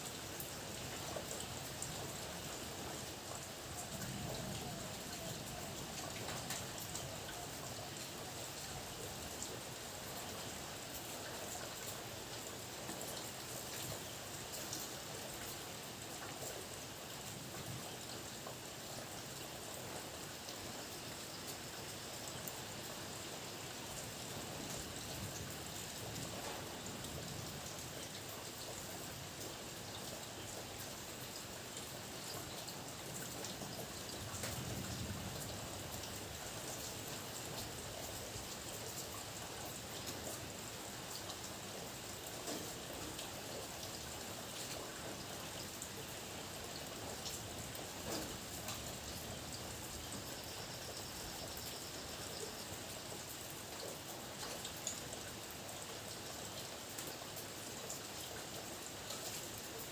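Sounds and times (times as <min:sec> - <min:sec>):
steady rainfall: 0:00.0 - 0:59.9
raindrops ticking on hard surface: 0:00.1 - 0:59.9.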